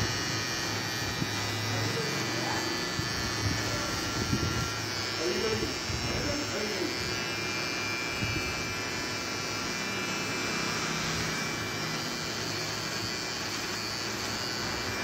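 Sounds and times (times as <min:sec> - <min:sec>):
electric hair trimmer buzzing: 0:00.0 - 0:15.0.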